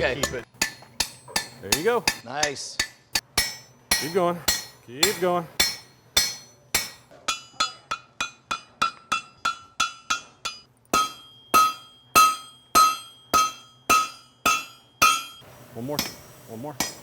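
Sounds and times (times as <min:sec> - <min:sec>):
hammer striking steel on anvil: 0:00.0 - 0:17.0.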